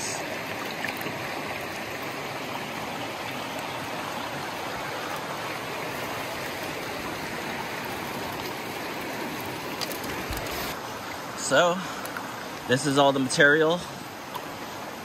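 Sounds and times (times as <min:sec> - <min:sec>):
water rushing through sluice box: 0:00.0 - 0:15.0.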